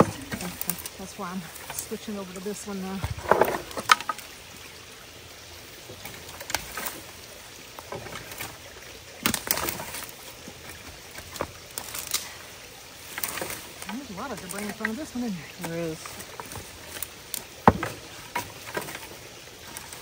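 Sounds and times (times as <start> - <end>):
low water sound: 0.0 - 20.0
water splashing and knocking: 0.0 - 20.0.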